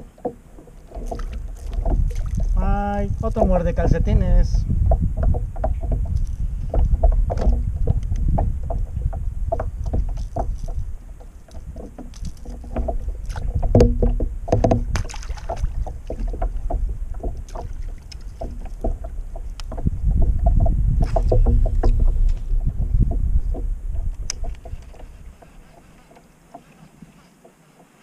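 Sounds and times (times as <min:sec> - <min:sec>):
fishing gear knocking on kayak: 0:00.0 - 0:25.2
water against hull: 0:00.0 - 0:28.0
wind: 0:00.0 - 0:28.0.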